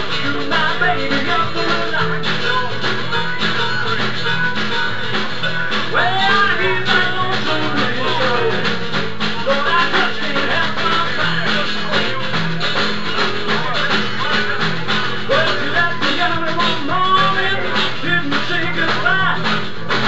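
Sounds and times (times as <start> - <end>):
live blues band playing: 0.0 - 20.0.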